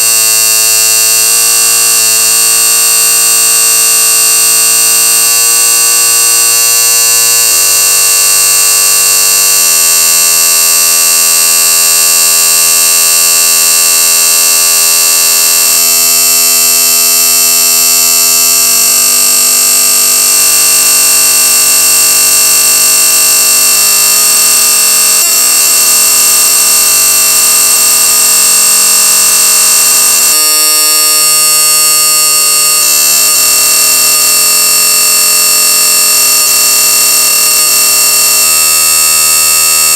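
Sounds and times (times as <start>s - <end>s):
piercing alarm tones: 0.0s - 39.9s.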